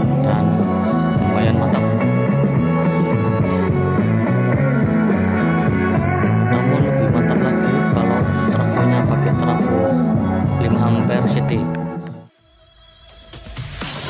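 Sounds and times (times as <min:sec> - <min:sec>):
loud rock music with guitar: 0:00.0 - 0:12.3.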